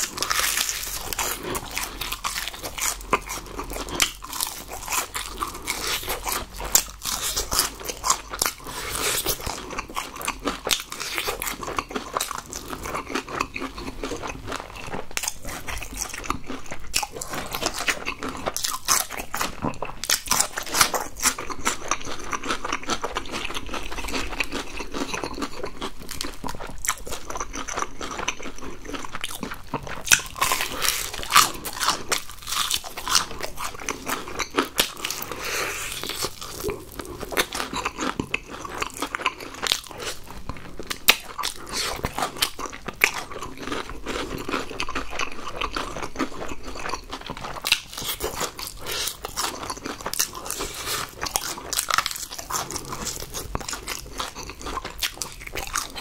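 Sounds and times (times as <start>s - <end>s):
crunching and chewing fried chicken: 0.0s - 56.0s.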